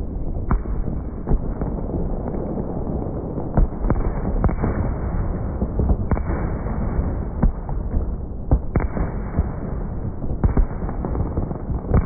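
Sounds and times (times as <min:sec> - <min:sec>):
fireworks bangs and booms: 0:00.0 - 0:12.0.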